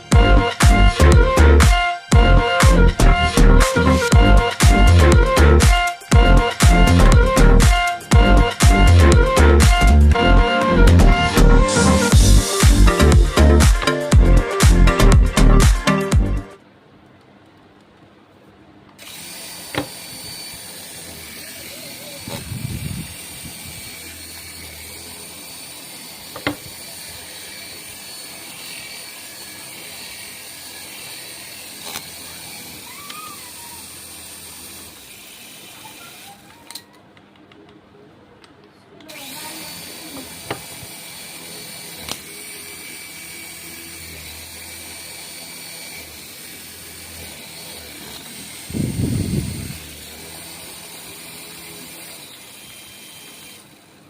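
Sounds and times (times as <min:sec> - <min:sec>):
toy electric motor whining: 0:00.0 - 0:16.2, 0:19.0 - 0:37.1, 0:39.0 - 0:54.0.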